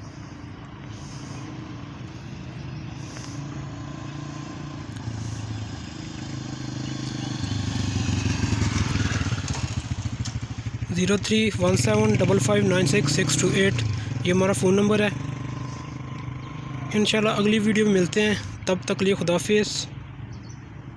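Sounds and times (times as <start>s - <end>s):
motorcycle engine passing: 0.1s - 18.4s.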